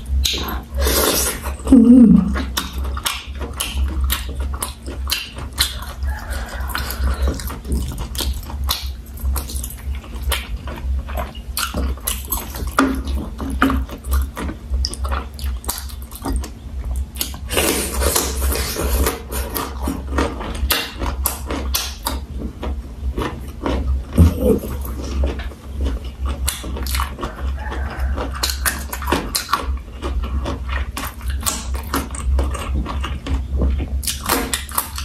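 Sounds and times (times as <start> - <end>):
person chewing with smacking clicks: 0.1 - 0.7, 2.3 - 35.0.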